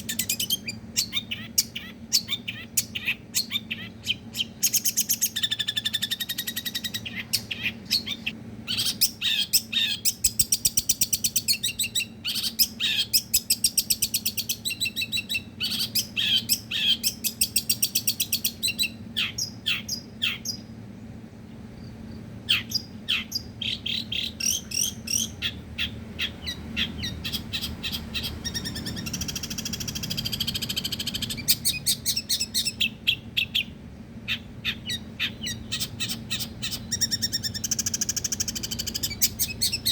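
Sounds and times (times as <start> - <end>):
bird singing sharp trills: 0.0 - 20.7, 21.8 - 39.9
faint low hum: 0.0 - 39.9.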